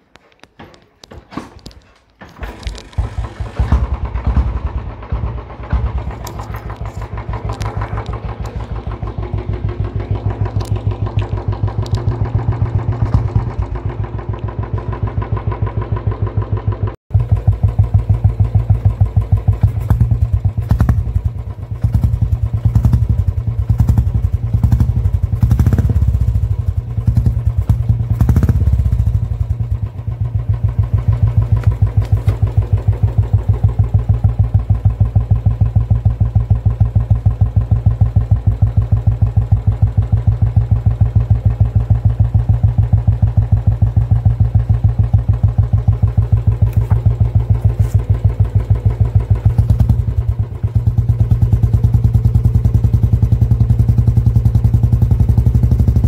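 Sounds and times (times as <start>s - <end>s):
motorcycle exhaust thumping: 0.4s - 56.0s.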